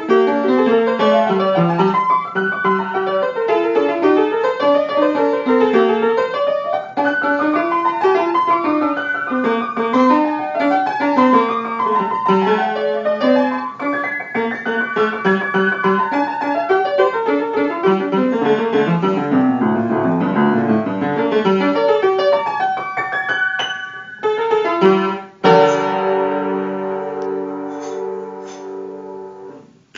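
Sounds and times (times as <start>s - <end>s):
piano playing: 0.0s - 29.9s.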